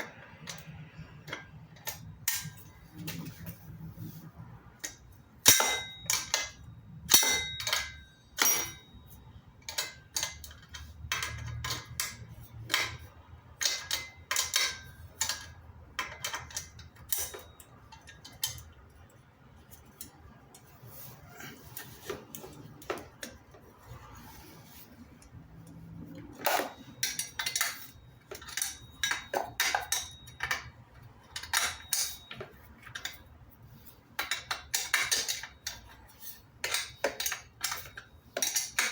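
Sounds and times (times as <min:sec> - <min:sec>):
metal tools clinking: 0:00.0 - 0:04.2, 0:04.8 - 0:38.9.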